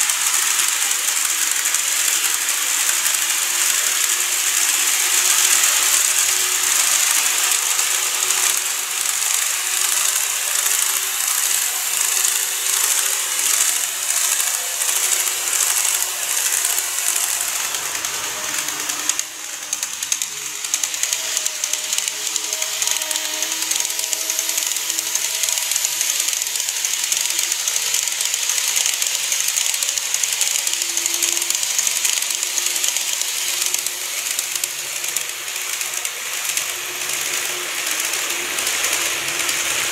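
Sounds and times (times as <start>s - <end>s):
model train wheels rattling: 0.0s - 39.9s.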